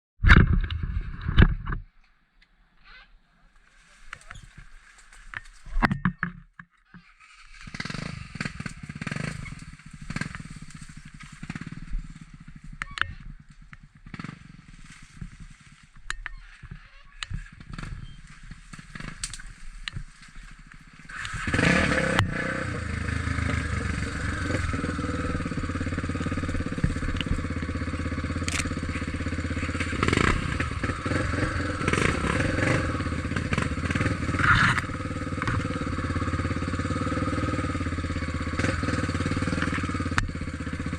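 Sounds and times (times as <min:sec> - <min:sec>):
motorcycle engine running: 0:07.2 - 0:40.9.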